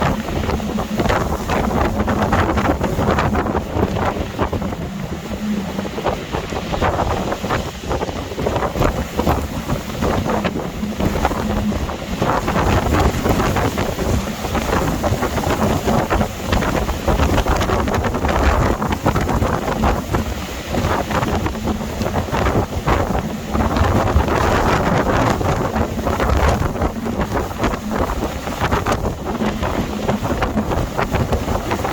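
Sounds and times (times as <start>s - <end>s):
gale wind buffeting microphone: 0.0s - 31.9s
rough sea: 0.0s - 31.9s.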